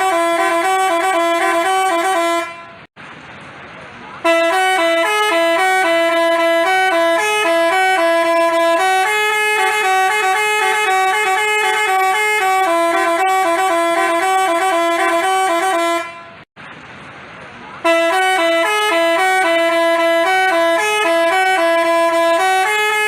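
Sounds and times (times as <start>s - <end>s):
musical bus horn melody: 0.0s - 2.9s, 4.2s - 16.5s, 17.8s - 23.0s.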